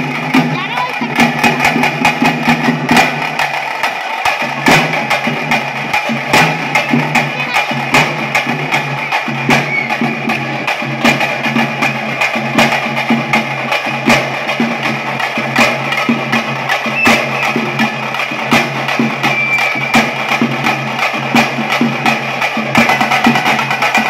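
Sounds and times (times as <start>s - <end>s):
drums beaten with sticks: 0.0s - 24.0s.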